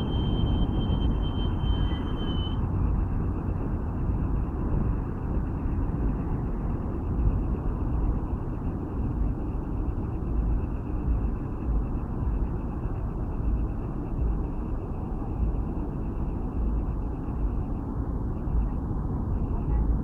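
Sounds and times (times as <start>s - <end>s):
low rumble of road traffic: 0.0s - 20.0s.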